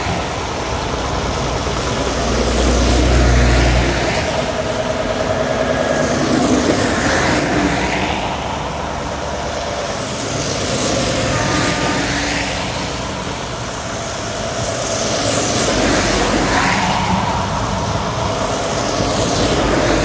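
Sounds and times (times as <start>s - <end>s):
heavy lorries driving past: 0.0s - 20.0s.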